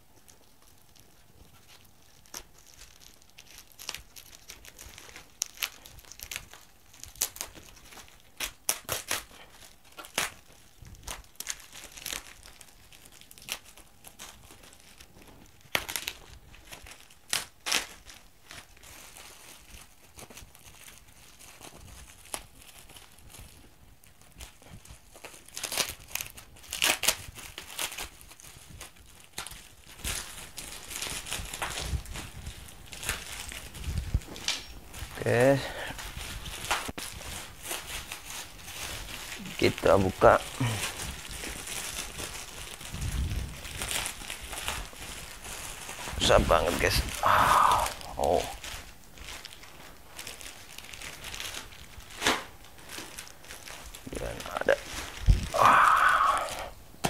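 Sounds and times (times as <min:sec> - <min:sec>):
packing tape cut and torn: 0:00.0 - 0:55.7
plastic bags crinkling: 0:00.0 - 0:57.0.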